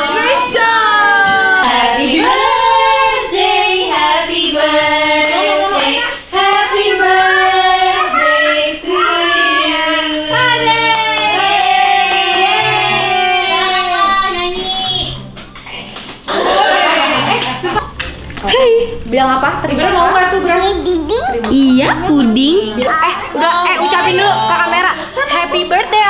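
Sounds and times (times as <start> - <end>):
low backing music: 0.0 - 26.0.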